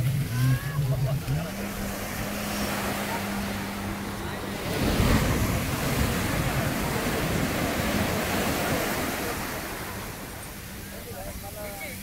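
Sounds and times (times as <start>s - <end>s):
ocean wave breaking: 0.0s - 12.0s.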